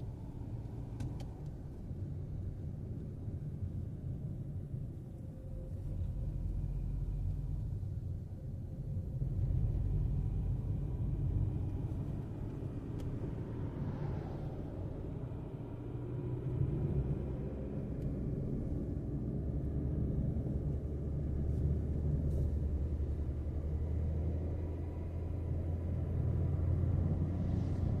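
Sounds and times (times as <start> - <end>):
car road noise rumble: 0.0 - 28.0.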